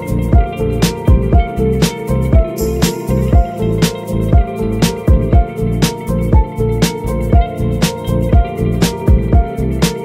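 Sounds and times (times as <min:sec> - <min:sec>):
held synth notes: 0:00.0 - 0:10.0
deep kick drum: 0:00.3 - 0:10.0.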